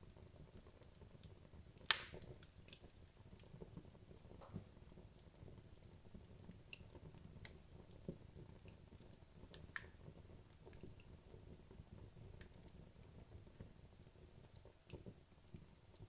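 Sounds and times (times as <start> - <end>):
wood logs crackling in fireplace: 0.0 - 16.0
fire popping: 0.1 - 16.0.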